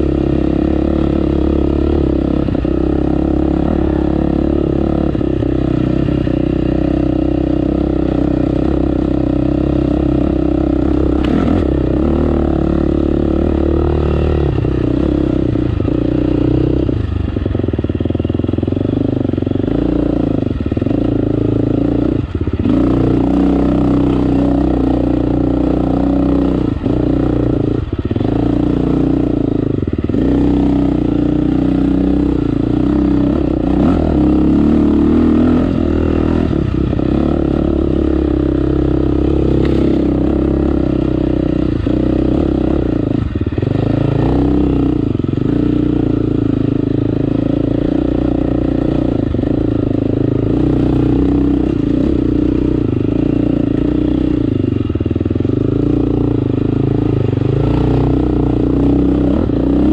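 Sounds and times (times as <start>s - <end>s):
motorcycle engine revving under load: 0.0s - 59.9s.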